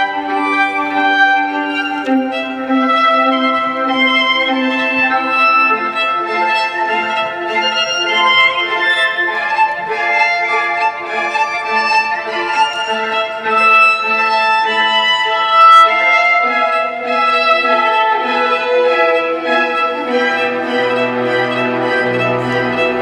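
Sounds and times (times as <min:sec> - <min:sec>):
bowed string music with violin: 0:00.0 - 0:23.0.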